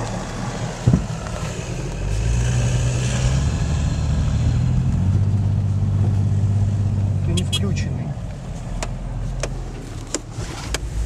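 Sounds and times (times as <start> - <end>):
engine droning inside vehicle cab: 0.0 - 11.0.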